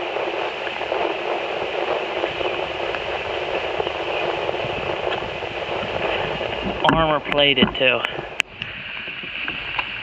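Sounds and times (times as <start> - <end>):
rain falling on water: 0.0 - 10.0.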